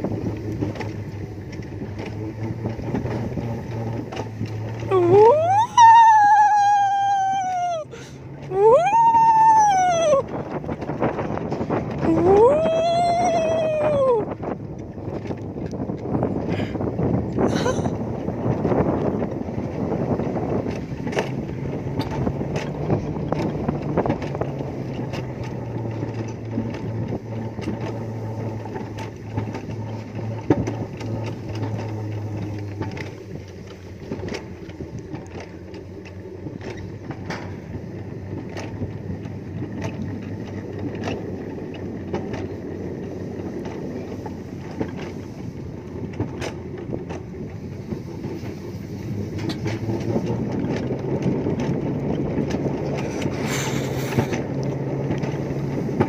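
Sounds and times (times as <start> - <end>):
low hum: 0.0 - 50.3
wheels rumbling on metal track: 0.0 - 56.0.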